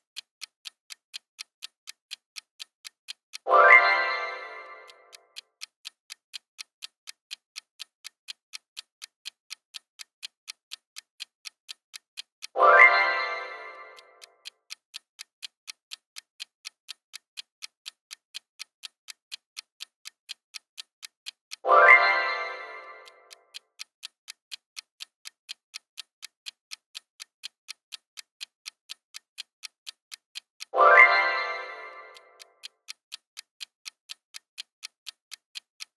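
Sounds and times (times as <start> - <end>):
clock ticking: 0.0 - 35.9.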